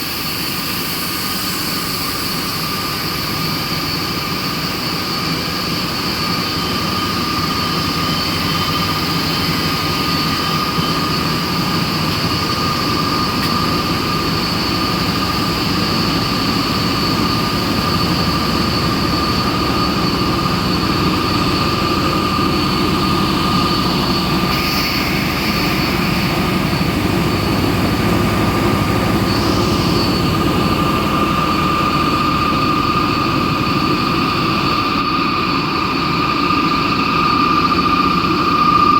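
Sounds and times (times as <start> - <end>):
high machine whines: 0.0 - 38.9
industrial machinery drone: 0.0 - 38.9.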